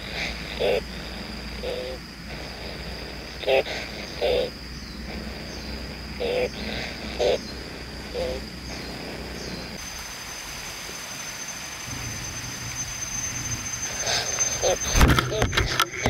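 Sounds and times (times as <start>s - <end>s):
nestlings rasping begging calls: 0.0s - 10.0s, 12.6s - 15.5s
low hum: 0.0s - 16.0s
steady high whine: 0.0s - 16.0s.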